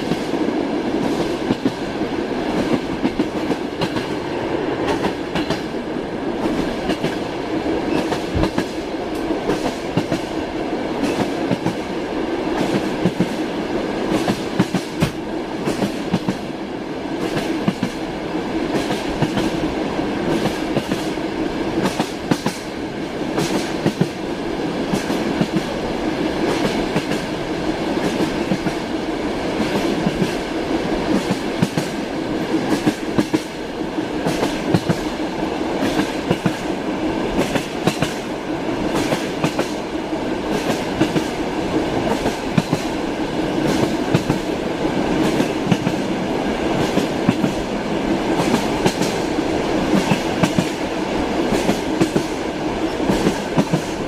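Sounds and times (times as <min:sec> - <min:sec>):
train wheels clattering over rails: 0:00.0 - 0:05.8, 0:06.4 - 0:18.0, 0:18.7 - 0:54.0.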